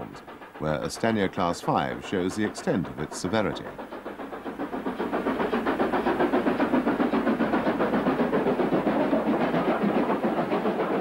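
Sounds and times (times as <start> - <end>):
hiss of steam: 0.0 - 11.0
steam locomotive chuffing: 0.0 - 11.0.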